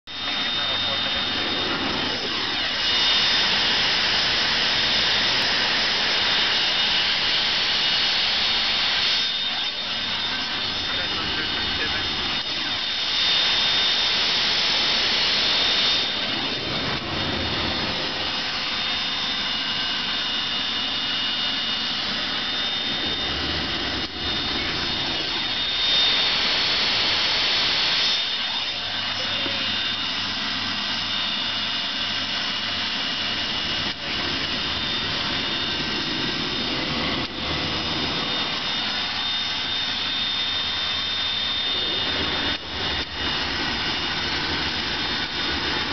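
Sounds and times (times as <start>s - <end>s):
jet engine roar with high whine: 0.1s - 45.9s.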